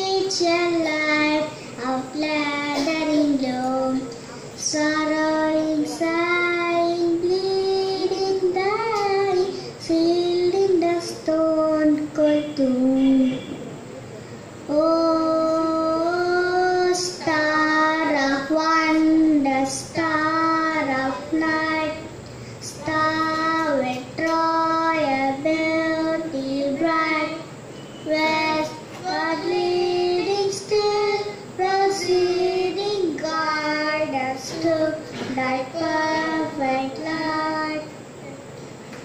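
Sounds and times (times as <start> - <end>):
child singing into a microphone: 0.0 - 13.4, 14.7 - 38.4.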